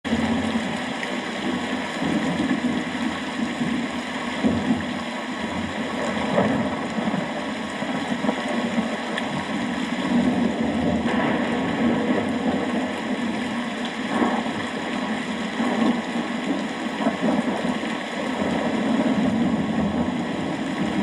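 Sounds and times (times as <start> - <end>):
rain falling: 0.1 - 21.0.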